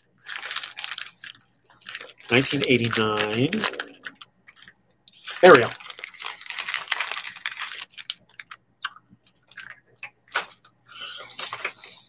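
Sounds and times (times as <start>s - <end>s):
wrapper crumpling: 0.0s - 8.6s, 9.3s - 12.0s.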